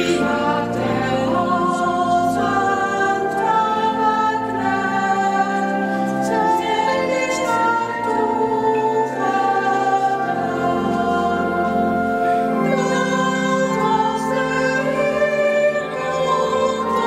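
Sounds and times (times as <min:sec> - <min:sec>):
choir singing: 0:00.0 - 0:17.0
sustained accompaniment: 0:00.0 - 0:17.0.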